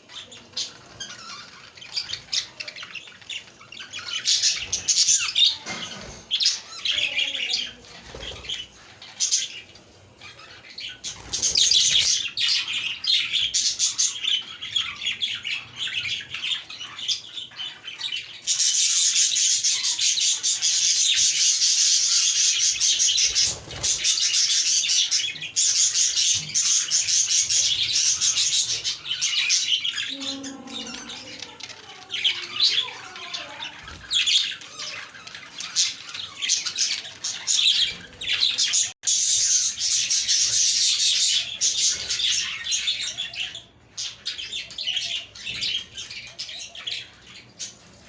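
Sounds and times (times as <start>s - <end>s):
budgerigars chattering and warbling: 0.0s - 48.0s.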